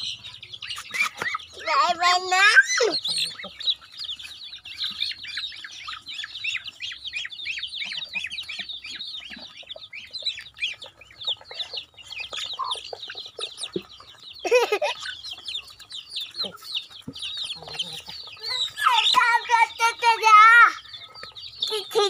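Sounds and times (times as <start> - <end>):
high peeping chirps: 0.0 - 22.0.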